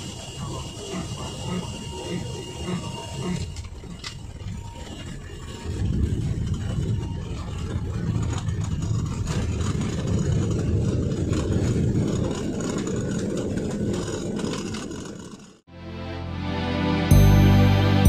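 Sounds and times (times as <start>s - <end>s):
wheels rolling on runway: 0.0s - 15.7s
airliner engines rumbling: 0.0s - 18.0s.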